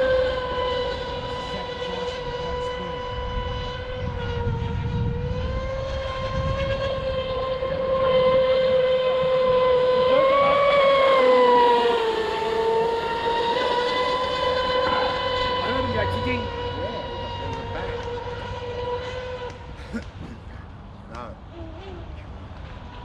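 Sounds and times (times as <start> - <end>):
electric motor high-pitched whine: 0.0 - 19.8
rush of water and wind: 0.0 - 23.0.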